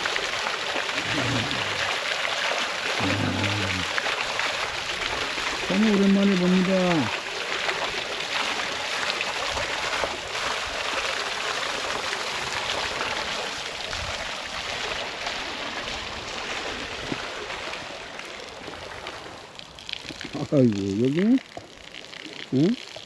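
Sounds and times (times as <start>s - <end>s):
water flowing and splashing: 0.0s - 23.0s.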